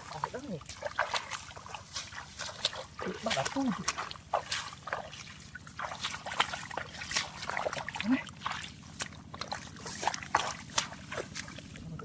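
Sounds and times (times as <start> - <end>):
hands splashing in muddy water: 0.0 - 12.0
water dripping: 0.0 - 12.0.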